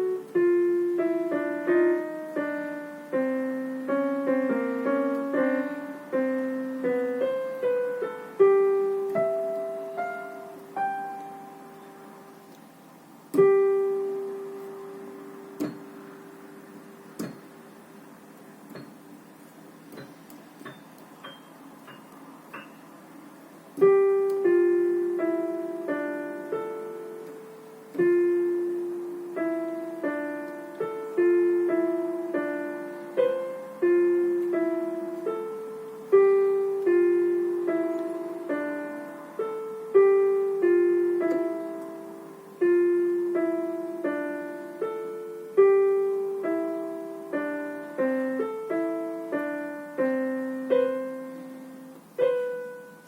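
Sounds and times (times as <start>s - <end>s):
solo piano piece: 0.0s - 53.0s.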